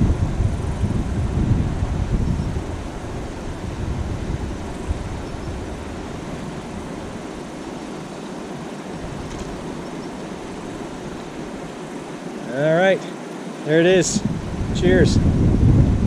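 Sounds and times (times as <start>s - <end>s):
wind rumble on microphone: 0.0s - 11.8s, 13.9s - 16.0s
river running over rocks: 0.0s - 16.0s.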